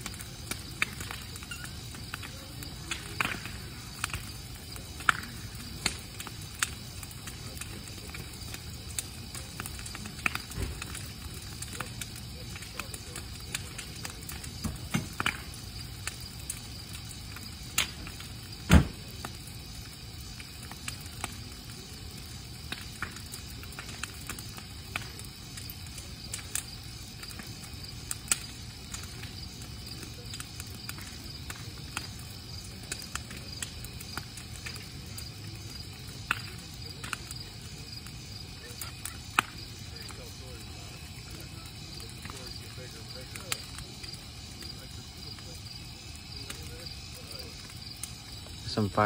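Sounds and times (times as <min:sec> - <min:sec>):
crickets chirping: 0:00.0 - 0:49.0
fire crackling and popping: 0:00.0 - 0:49.0.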